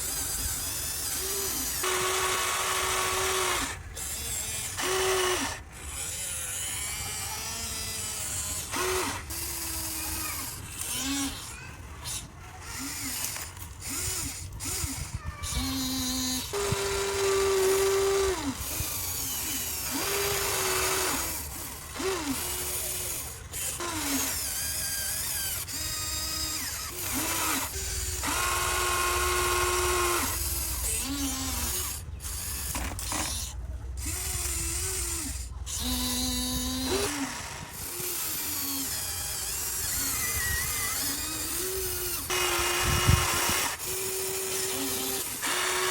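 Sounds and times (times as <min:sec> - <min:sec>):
small electric motors whining: 0:00.0 - 0:45.9.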